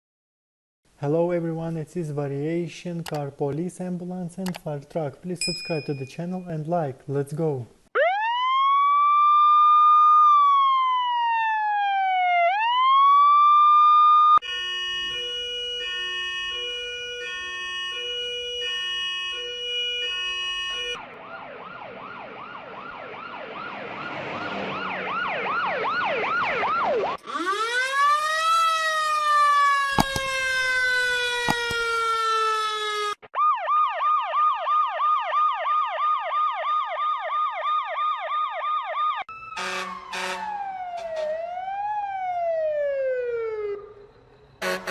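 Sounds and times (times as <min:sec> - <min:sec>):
emergency vehicle sirens: 0:07.9 - 0:44.9.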